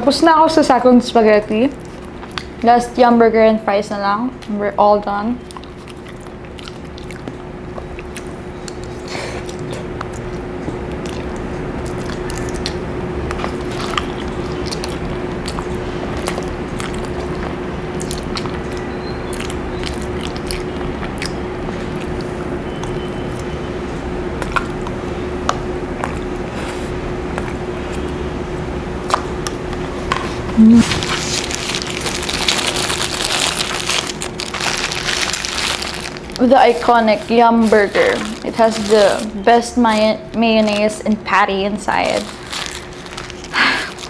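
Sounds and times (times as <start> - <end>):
background hum: 0.0 - 44.0
chewing: 1.7 - 2.6, 5.4 - 28.3, 29.0 - 40.9, 42.2 - 44.0.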